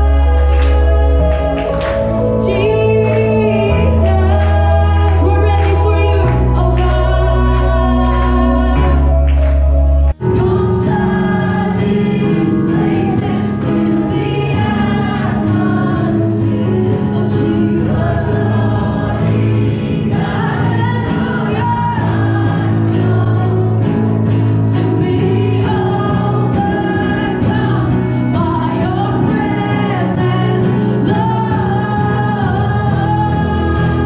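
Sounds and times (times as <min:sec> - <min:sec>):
woman singing into a microphone: 0:00.0 - 0:09.3, 0:10.1 - 0:34.0
people singing along: 0:00.0 - 0:09.4, 0:10.1 - 0:34.0.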